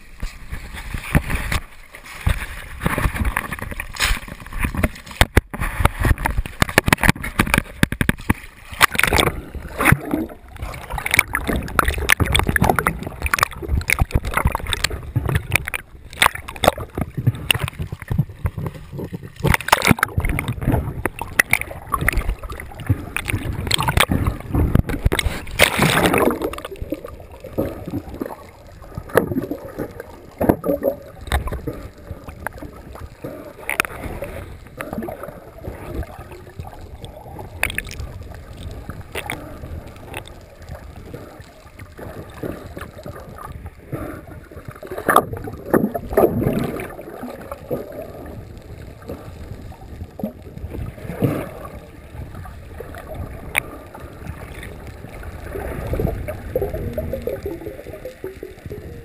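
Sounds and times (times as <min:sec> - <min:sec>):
underwater bubbling: 0:00.0 - 0:59.0
water sloshing and splashing: 0:00.0 - 0:59.0.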